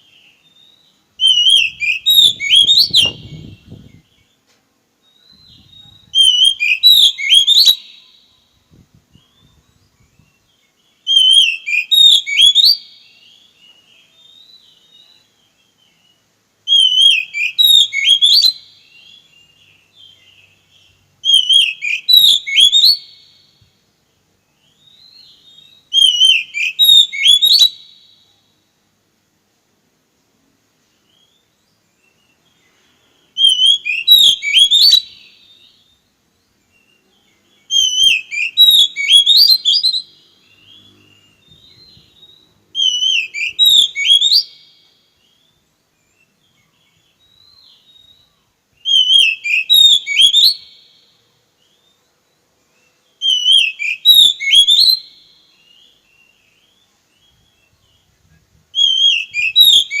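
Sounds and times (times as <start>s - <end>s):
bird whistles and chirps: 0.0s - 4.3s, 5.0s - 23.7s, 24.5s - 28.4s, 31.0s - 60.0s.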